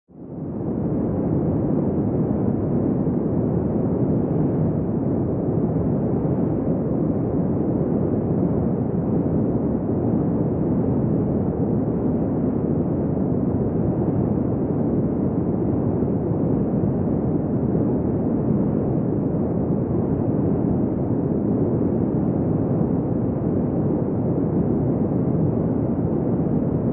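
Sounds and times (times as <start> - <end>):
strong wind blowing: 0.2 - 26.9.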